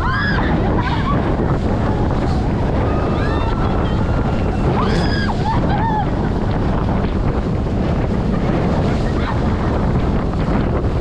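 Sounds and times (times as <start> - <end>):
water rushing and splashing: 0.0 - 11.0
wind buffeting microphone: 0.0 - 11.0.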